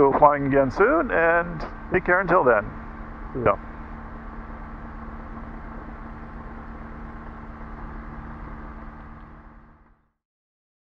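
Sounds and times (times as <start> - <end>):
ultralight aircraft engine idling: 0.0 - 10.1.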